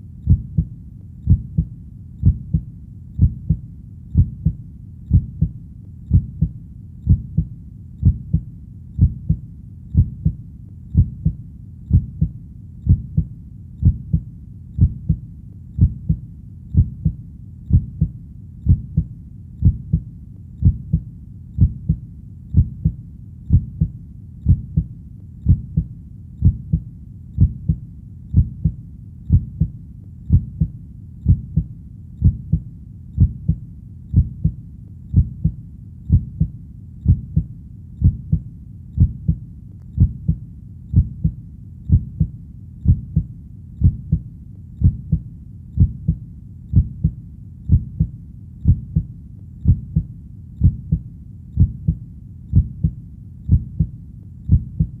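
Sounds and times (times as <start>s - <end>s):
heartbeat double thumps: 0.2s - 39.4s, 40.0s - 55.0s.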